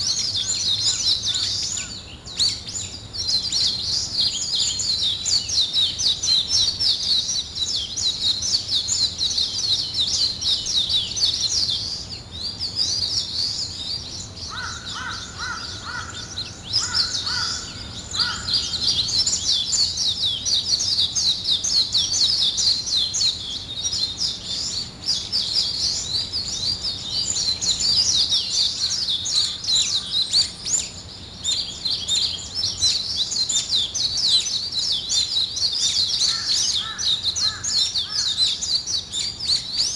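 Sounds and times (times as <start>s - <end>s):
lower bird call: 0.0s - 39.9s
small birds chirping: 0.0s - 39.9s.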